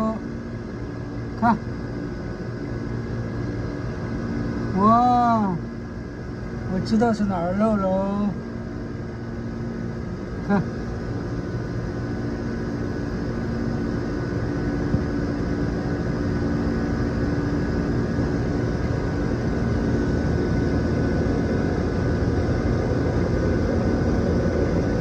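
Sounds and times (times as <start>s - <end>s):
air conditioner compressor hum: 0.0s - 25.0s
condenser fan rushing: 0.0s - 25.0s.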